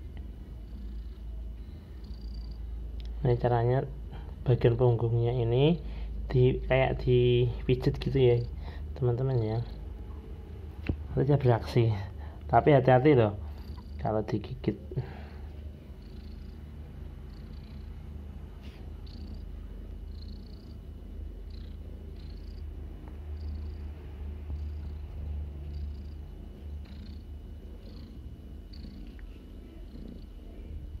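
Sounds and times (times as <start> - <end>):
cat purring: 0.0 - 4.2, 5.5 - 10.6, 12.8 - 31.0.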